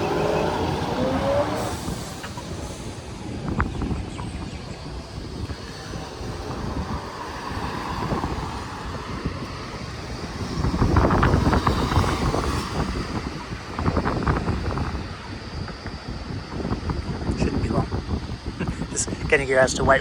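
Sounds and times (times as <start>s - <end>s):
road traffic passing: 0.0s - 20.0s
wind buffeting microphone: 0.0s - 20.0s.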